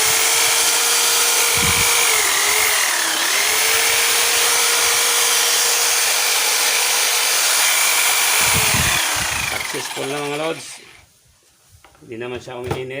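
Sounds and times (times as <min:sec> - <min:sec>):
electric drill whining: 0:00.0 - 0:11.1.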